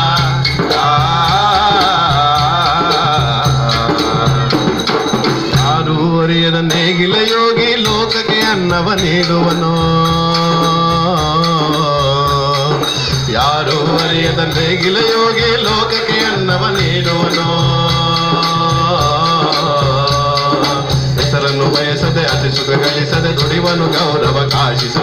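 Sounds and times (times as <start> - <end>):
small hand cymbals: 0.0 - 5.9, 6.6 - 25.0
frame drum beat: 0.0 - 25.0
group singing devotional song: 0.0 - 25.0
lead voice singing: 0.0 - 25.0.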